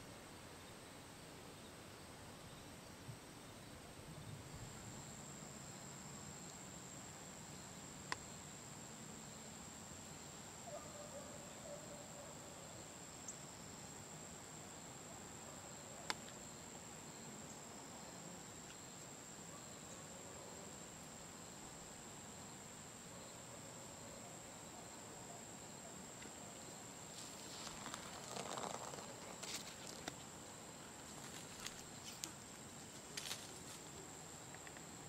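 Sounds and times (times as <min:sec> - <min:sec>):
insects chirring: 0:00.4 - 0:35.0.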